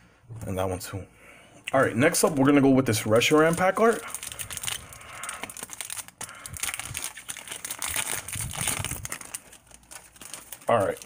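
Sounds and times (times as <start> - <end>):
foil wrapper crinkling and tearing: 2.0 - 11.0.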